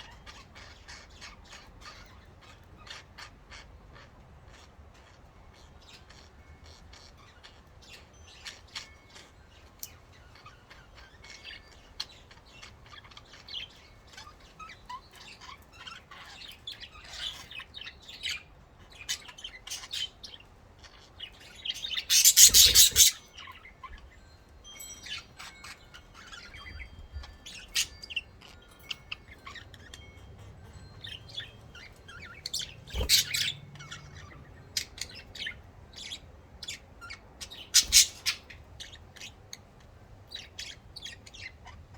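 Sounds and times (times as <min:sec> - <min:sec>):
budgerigars chirping: 0:00.0 - 0:41.9.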